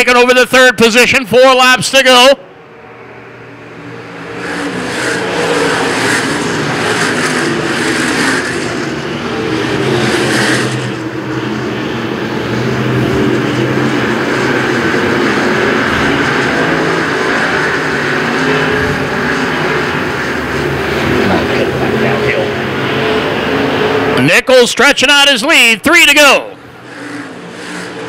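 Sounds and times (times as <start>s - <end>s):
stock car engines racing: 0.0s - 28.0s.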